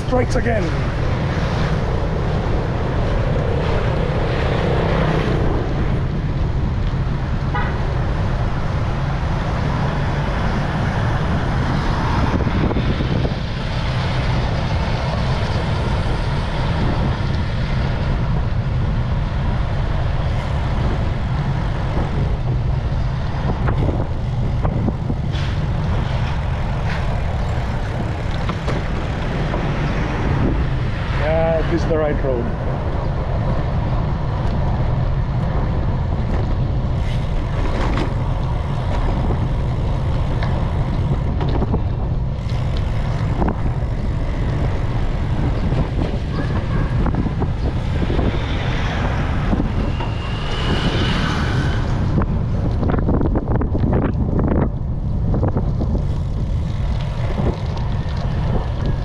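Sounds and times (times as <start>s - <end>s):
bicycle road rumble: 0.0s - 59.0s
wind on microphone: 0.0s - 59.0s.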